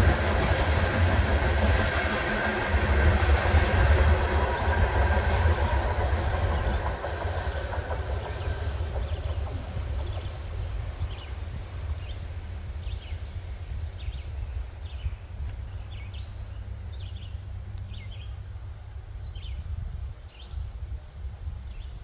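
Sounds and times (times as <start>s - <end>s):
low breeze rumble on microphone: 0.0s - 22.0s.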